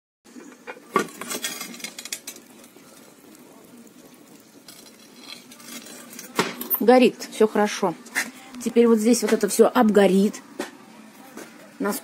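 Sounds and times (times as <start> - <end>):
steady fire noise: 0.3 - 12.0.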